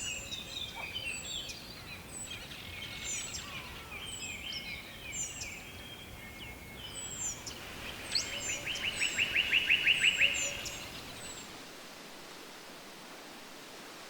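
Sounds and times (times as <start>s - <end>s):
songbirds chirping: 0.0s - 12.4s
steady background hiss: 0.0s - 14.0s.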